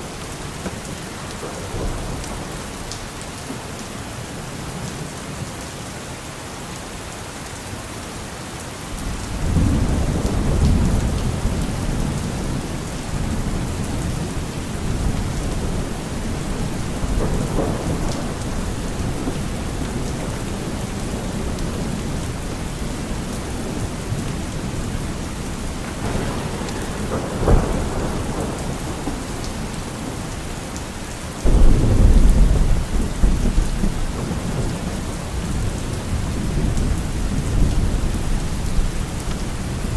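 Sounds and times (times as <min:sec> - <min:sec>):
rolling thunder: 0:00.0 - 0:03.2, 0:09.0 - 0:39.9
steady rain: 0:00.0 - 0:39.9.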